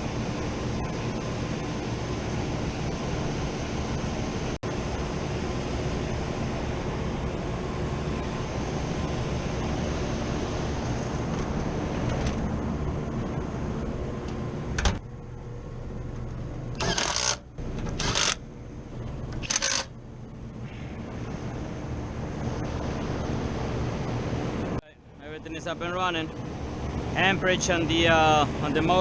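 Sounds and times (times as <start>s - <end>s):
hvac unit humming: 0.0s - 29.0s.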